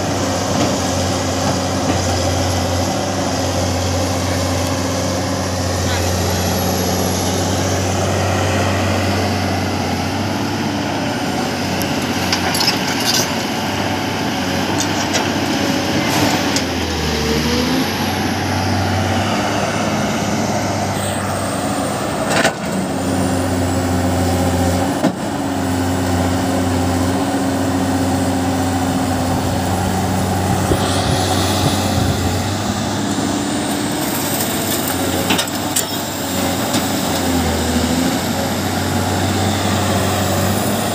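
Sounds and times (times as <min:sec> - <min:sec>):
diesel engines of heavy machines: 0:00.0 - 0:40.9.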